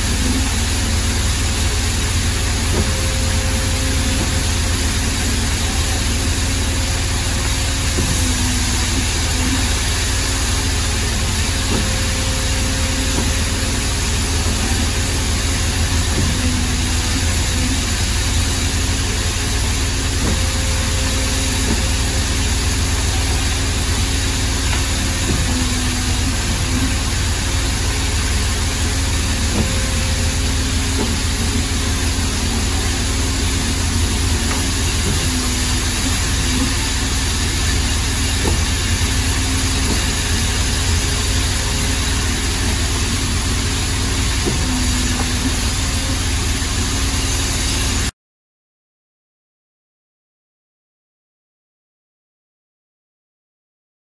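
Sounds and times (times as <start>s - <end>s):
machine hum: 0.0s - 48.1s.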